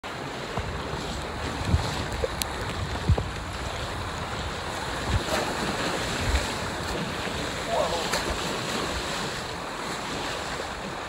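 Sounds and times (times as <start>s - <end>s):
rough sea breaking: 0.0s - 11.0s
wind buffeting microphone: 0.2s - 11.0s.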